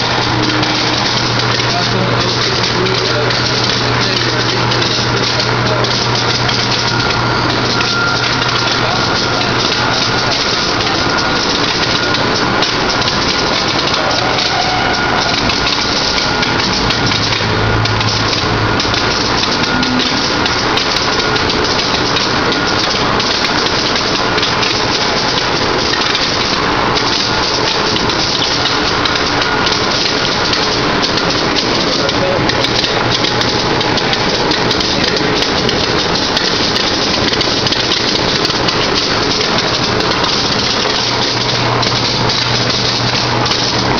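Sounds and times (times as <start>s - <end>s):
conveyor belt machine noise: 0.0s - 43.9s.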